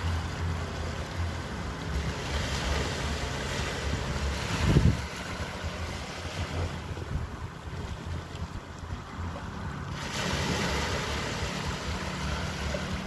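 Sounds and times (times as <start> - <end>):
ocean waves breaking: 0.0 - 13.0
wind buffeting microphone: 2.0 - 13.0.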